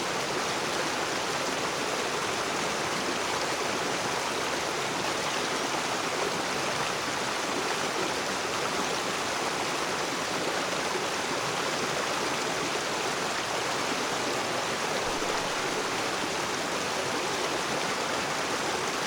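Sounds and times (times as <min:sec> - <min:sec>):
river water rushing over stones: 0:00.1 - 0:19.0.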